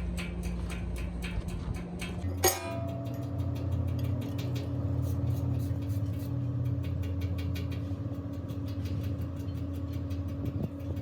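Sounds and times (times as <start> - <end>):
fast regular ticking: 0.0 - 11.0
machinery humming: 0.0 - 11.0.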